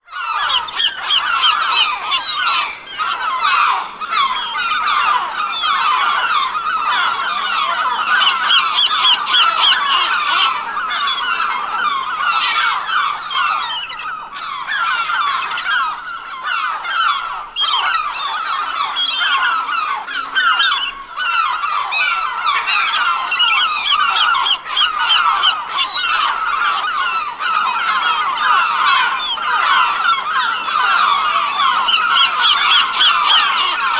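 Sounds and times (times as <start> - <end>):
flock of gulls calling: 0.0 - 33.9.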